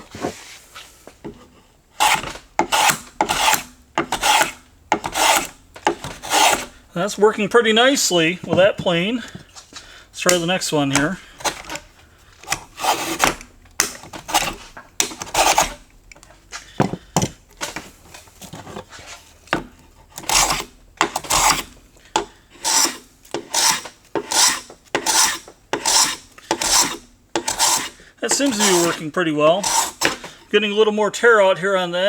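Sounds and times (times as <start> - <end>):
hand plane cutting wood: 0.0 - 7.0, 10.2 - 30.5.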